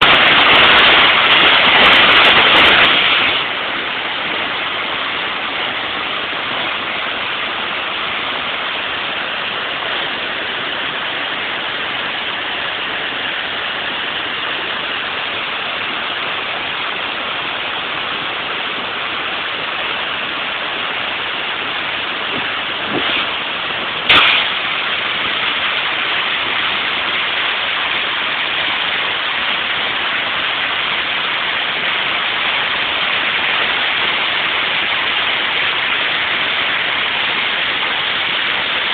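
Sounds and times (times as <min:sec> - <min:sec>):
waterfall pouring over rocks: 0:00.0 - 0:38.9.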